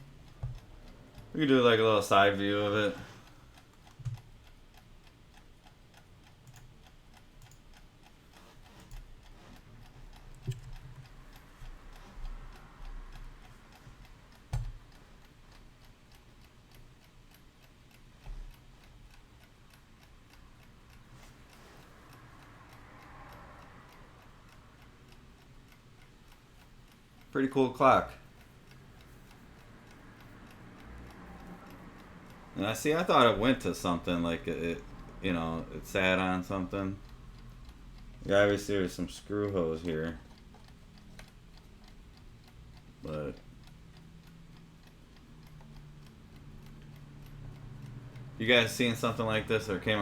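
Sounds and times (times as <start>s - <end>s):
alarm clock ticking: 0.0s - 50.0s.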